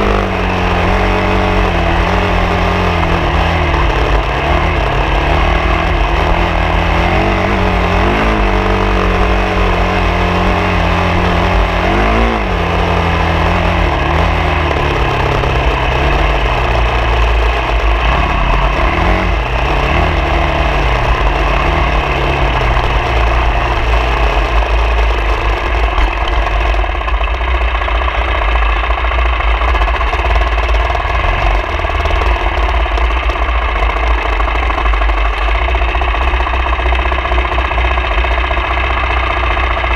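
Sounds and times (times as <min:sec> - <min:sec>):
vehicle engine revving off-road: 0:00.0 - 0:39.9.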